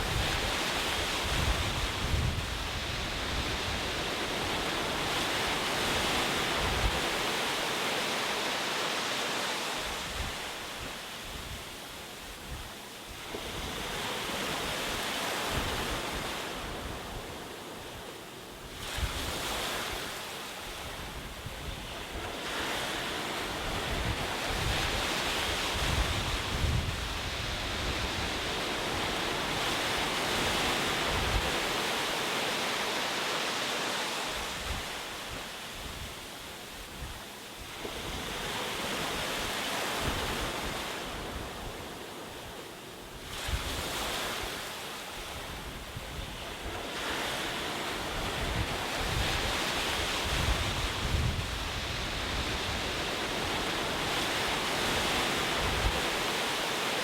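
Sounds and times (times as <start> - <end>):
wind rumble on microphone: 0.0 - 7.5, 9.8 - 18.0, 18.6 - 32.1, 34.3 - 42.6, 43.2 - 56.5
ocean waves breaking on shore: 0.0 - 57.0.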